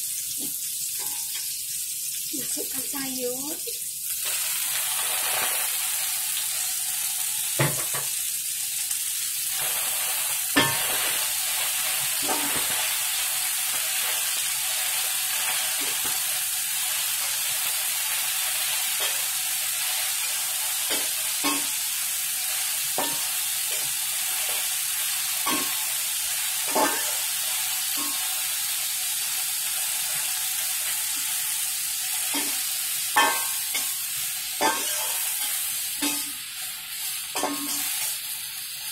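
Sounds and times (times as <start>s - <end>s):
cabbage sizzling in hot oil: 0.0s - 38.9s.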